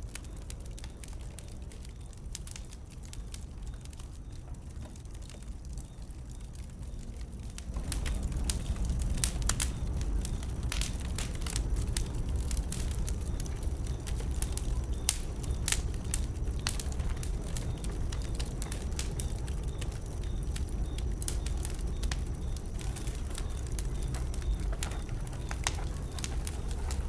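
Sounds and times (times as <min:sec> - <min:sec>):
bonfire crackling: 0:00.0 - 0:27.0
low rumble of fire: 0:00.0 - 0:27.0.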